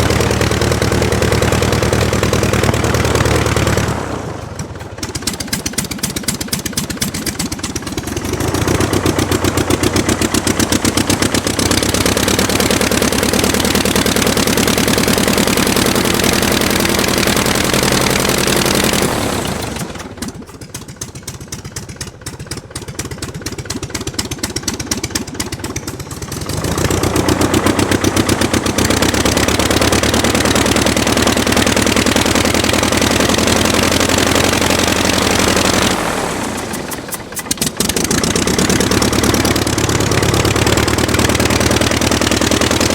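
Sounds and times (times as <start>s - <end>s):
aircraft piston engine running: 0.0s - 42.9s.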